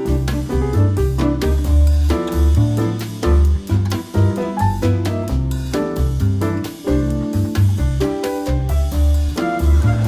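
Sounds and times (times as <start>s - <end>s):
upbeat jazz music: 0.0s - 10.0s.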